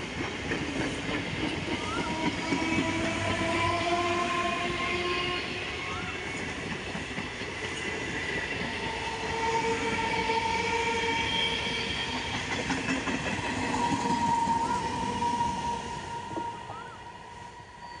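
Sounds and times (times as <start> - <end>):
train rumble with high whine: 0.0 - 18.0.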